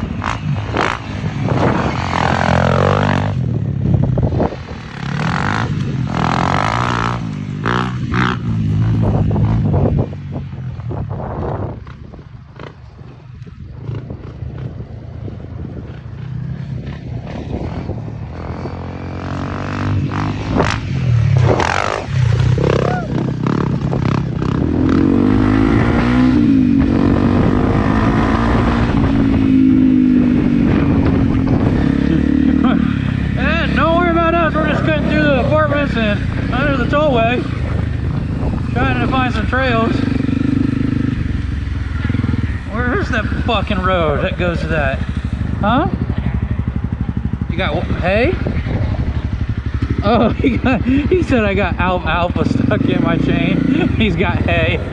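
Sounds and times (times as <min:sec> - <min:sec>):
motorcycle engine under throttle: 0:00.0 - 0:54.9.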